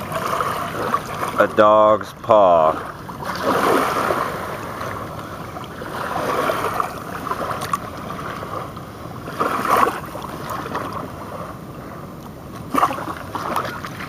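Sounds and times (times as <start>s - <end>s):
river water lapping at shore: 0.0s - 14.0s.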